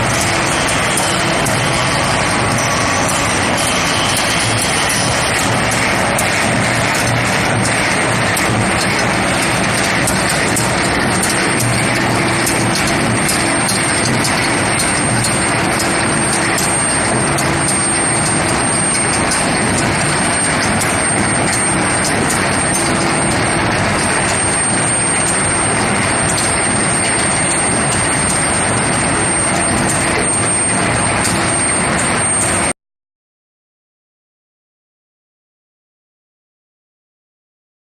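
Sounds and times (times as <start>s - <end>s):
forging machine with high whine: 0.0s - 32.7s.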